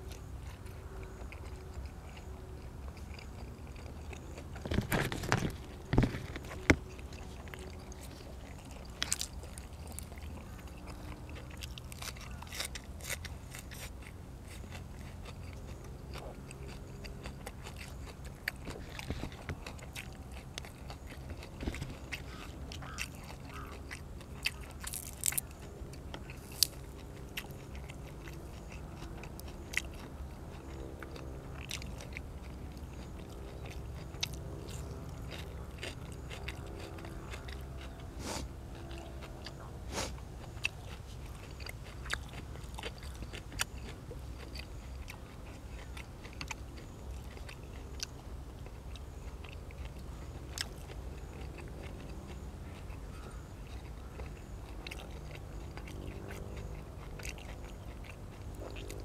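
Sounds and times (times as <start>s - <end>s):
person chewing food: 0.0s - 59.0s
steady low hum: 0.0s - 59.0s.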